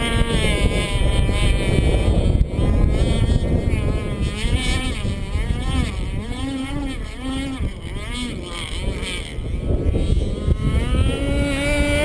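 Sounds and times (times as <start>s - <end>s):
model boat motor running: 0.0s - 12.0s
wind buffeting microphone: 0.0s - 12.0s.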